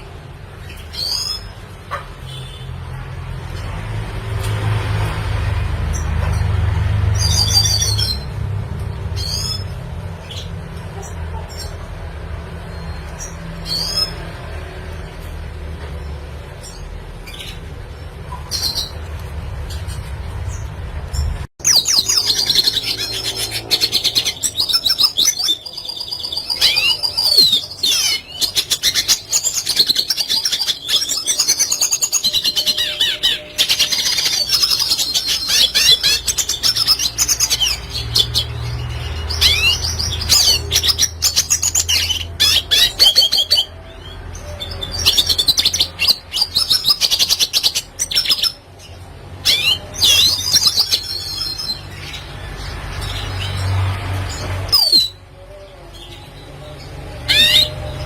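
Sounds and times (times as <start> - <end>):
bird twittering song: 5.9 - 11.9, 16.5 - 58.0.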